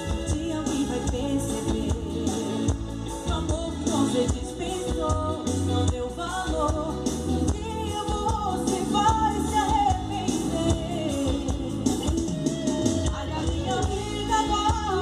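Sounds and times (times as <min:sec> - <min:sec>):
song with vocals and heavy bass: 0:00.0 - 0:15.0.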